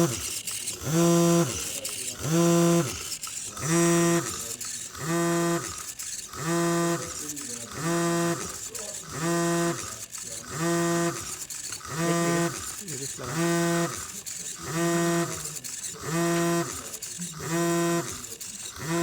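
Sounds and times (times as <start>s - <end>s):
coffee machine motor humming pulses: 0.0s - 19.0s.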